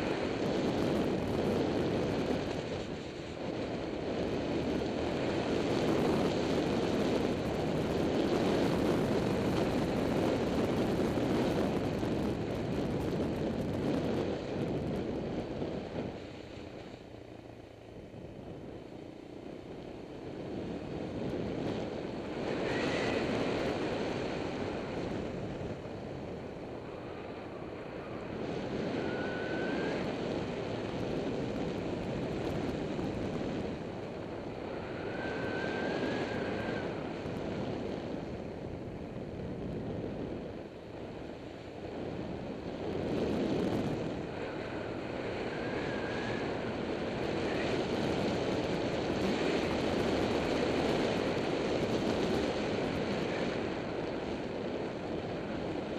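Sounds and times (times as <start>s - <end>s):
motorbike engine drone: 0.0s - 55.9s
wind rushing over microphone: 0.0s - 55.9s.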